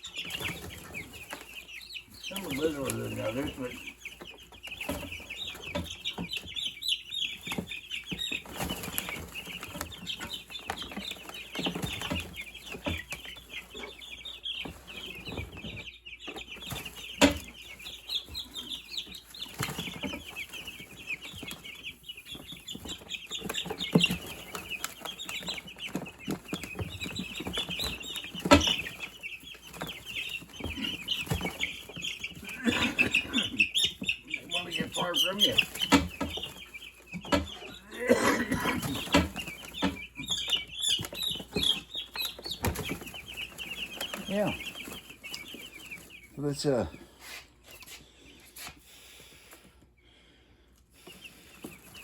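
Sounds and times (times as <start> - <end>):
chicks chirping: 0.0 - 52.0.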